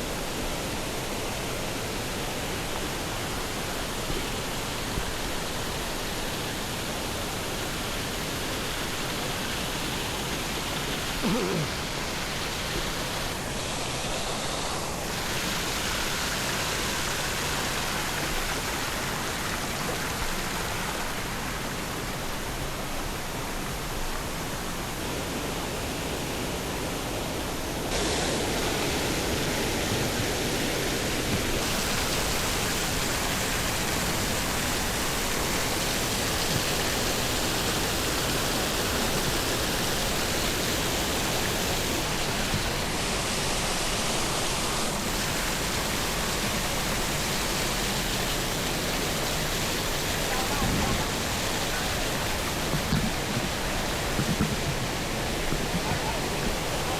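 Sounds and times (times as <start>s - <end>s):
rushing water: 0.0s - 56.9s.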